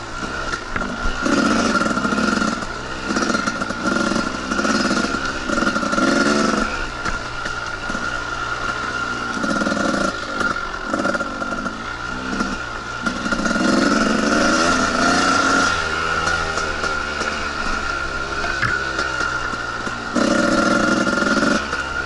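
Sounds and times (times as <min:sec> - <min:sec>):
dirt bike engine revving: 0:00.0 - 0:22.0
steady high whine: 0:00.0 - 0:22.0.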